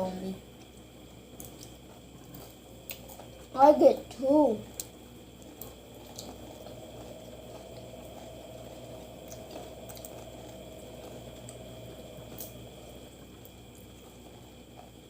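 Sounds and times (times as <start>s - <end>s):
low hum: 0.0s - 15.0s
soft chewing: 0.4s - 15.0s.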